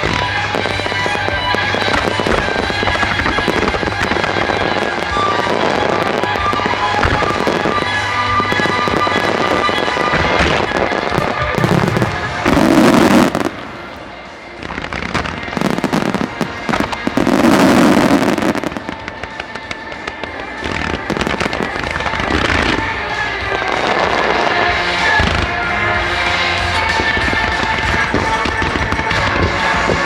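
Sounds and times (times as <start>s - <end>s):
fireworks bursting and crackling: 0.0s - 30.0s
music from loudspeakers: 0.0s - 30.0s.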